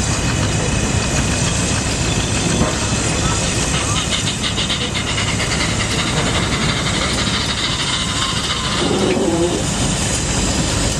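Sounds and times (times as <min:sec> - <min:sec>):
loud steam hiss: 0:00.0 - 0:10.9
steam engine running: 0:00.0 - 0:10.9.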